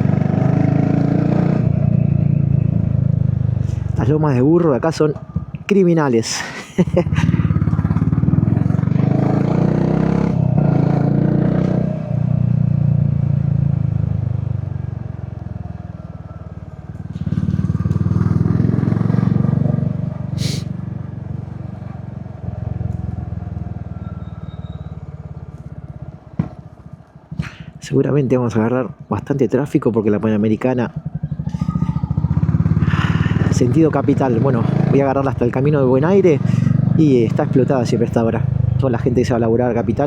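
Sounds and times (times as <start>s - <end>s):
motorcycle engine revving: 0.0s - 4.5s, 6.9s - 27.8s, 30.1s - 40.0s.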